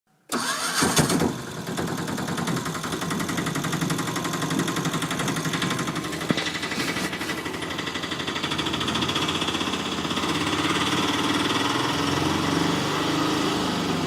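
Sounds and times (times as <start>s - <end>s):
rickshaw engine puttering: 0.3s - 14.0s.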